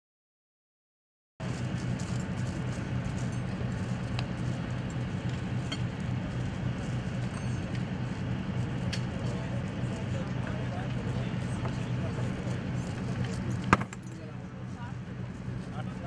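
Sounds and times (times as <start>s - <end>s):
engine rumbling: 1.4s - 16.0s.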